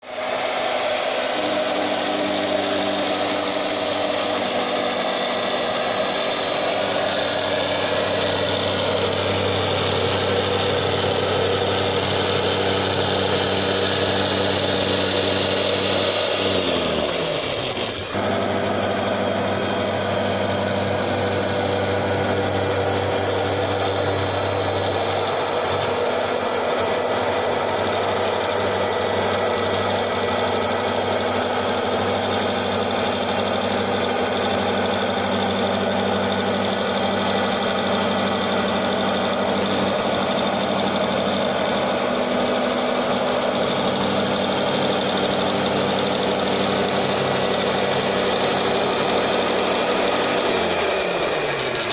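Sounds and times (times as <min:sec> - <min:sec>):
cutting machine motor hum: 0:00.0 - 0:51.9.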